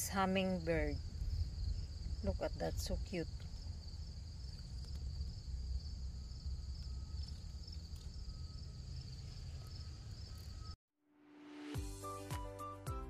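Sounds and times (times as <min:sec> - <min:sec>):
insects chirring: 0:00.2 - 0:10.8.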